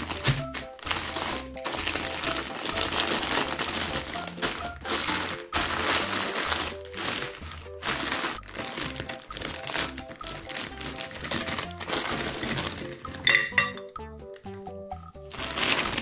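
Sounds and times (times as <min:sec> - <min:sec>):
background music: 0:00.0 - 0:16.0
plastic candy packets crinkling: 0:00.0 - 0:16.0.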